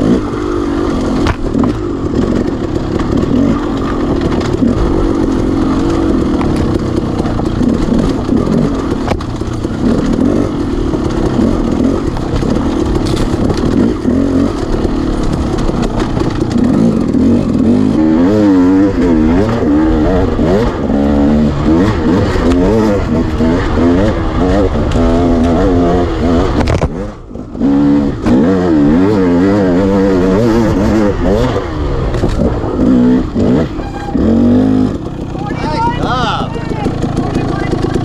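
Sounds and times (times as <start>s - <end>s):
engine clatter: 0.0s - 38.0s
motorcycle engine revving: 0.0s - 38.0s.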